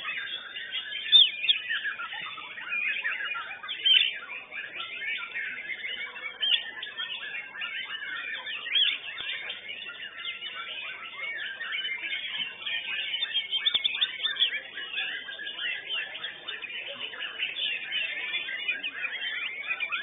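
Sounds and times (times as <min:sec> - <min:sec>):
bird singing whistles and chirps: 0:00.0 - 0:20.0.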